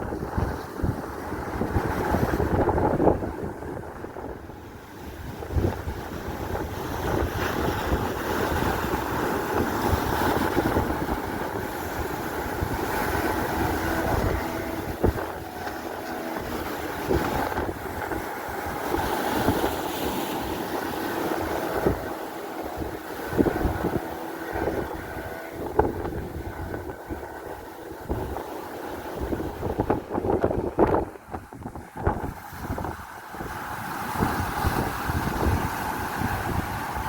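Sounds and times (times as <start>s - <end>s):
boat engine running: 0.0s - 37.0s
waves splashing against hull: 0.0s - 37.0s
wind buffeting microphone: 0.0s - 37.0s.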